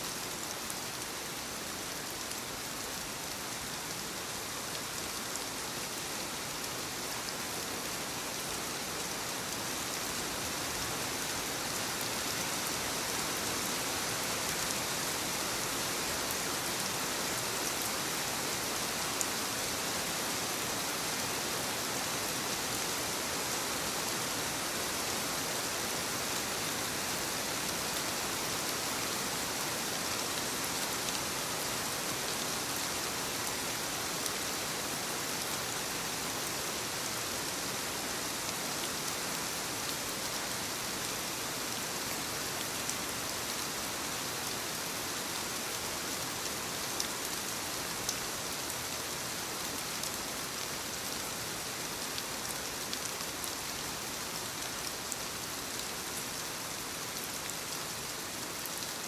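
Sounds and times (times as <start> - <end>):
soft rain on leaves: 0.0 - 59.0.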